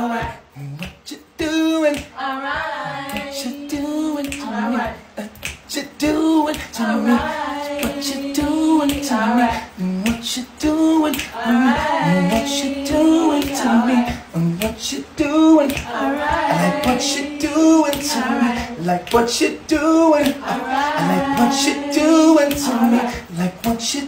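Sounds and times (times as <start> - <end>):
voices singing a cappella: 0.0 - 24.0.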